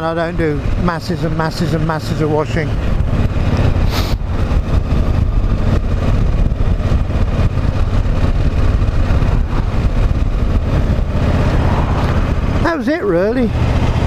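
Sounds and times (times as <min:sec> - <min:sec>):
motorcycle engine rumbling: 0:00.0 - 0:14.0
road and air noise: 0:00.0 - 0:14.0.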